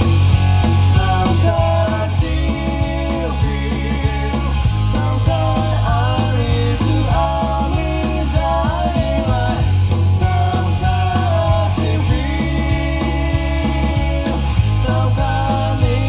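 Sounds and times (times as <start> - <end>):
punk rock song from vinyl record: 0.0 - 16.0.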